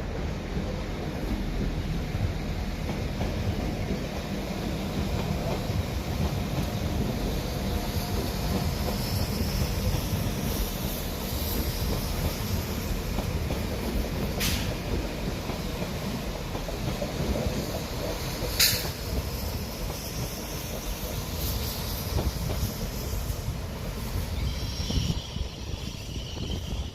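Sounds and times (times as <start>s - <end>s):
train rumbling: 0.0s - 26.9s.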